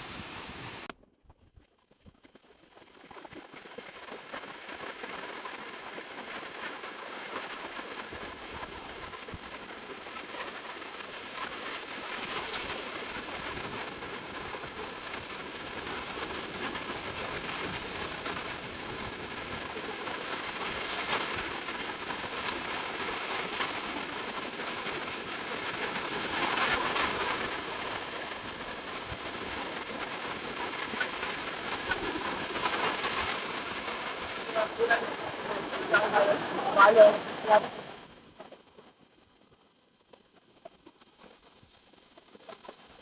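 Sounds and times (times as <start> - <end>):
sea waves washing onto beach: 2.4 - 39.1.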